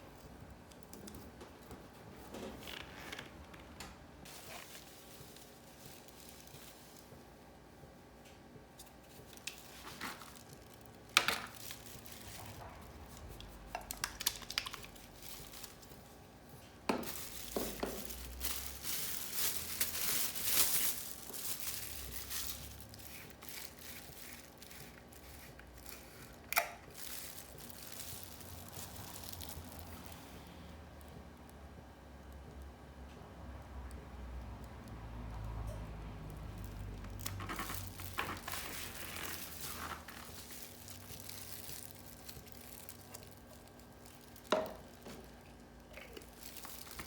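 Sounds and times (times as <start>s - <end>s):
scraping and crinkling: 0.8s - 7.3s, 8.7s - 30.6s, 36.2s - 47.0s.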